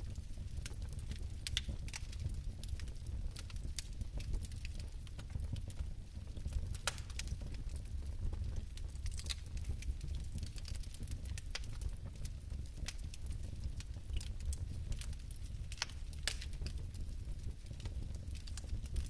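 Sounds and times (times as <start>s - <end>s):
fireplace fire crackling: 0.0s - 19.0s
low rumble of flame: 0.0s - 19.0s.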